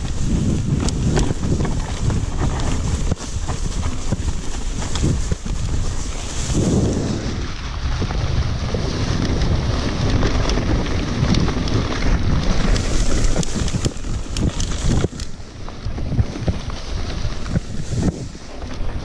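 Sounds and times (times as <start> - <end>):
bike rattling over rough ground: 0.0 - 19.0
tall grass swishing against bike: 0.0 - 19.0
wind buffeting microphone: 0.0 - 19.0.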